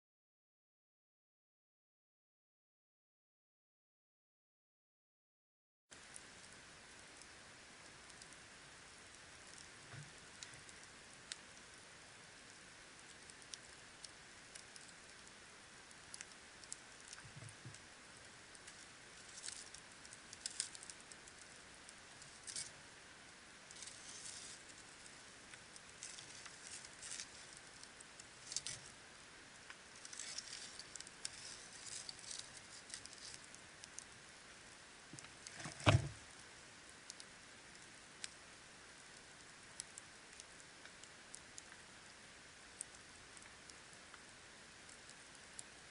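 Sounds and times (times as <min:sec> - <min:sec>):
campfire crackling: 0:05.9 - 0:45.9
faint hiss: 0:05.9 - 0:45.9.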